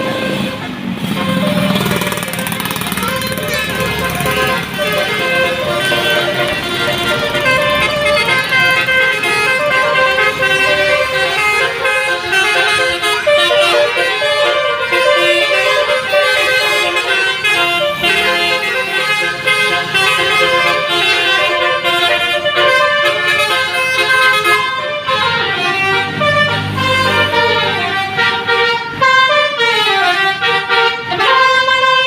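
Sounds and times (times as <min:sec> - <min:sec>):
bus air horn melody: 0:00.0 - 0:32.0.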